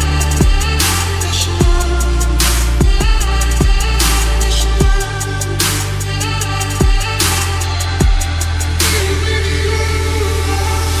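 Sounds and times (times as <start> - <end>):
deep falling bass drop: 0.0 - 10.9
electronic dance music: 0.0 - 11.0.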